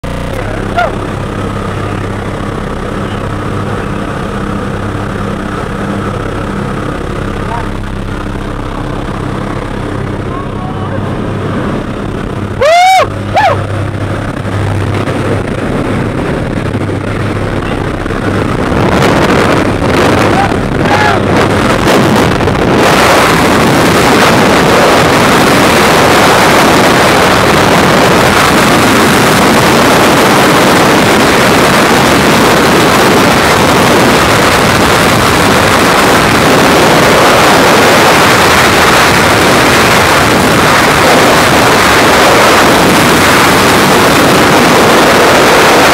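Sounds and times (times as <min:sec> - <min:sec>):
freefall wind on microphone: 0:00.0 - 0:45.9
plane engine drone: 0:00.0 - 0:45.9.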